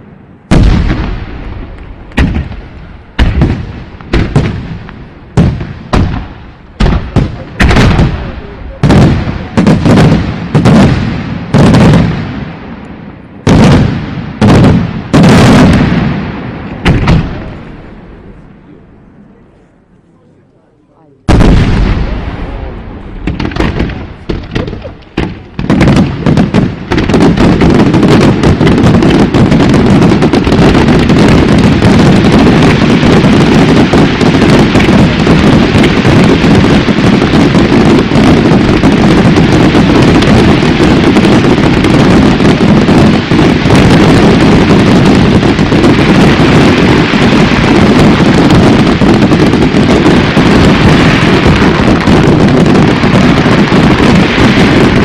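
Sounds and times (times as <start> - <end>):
fireworks explosions: 0.0 - 55.0.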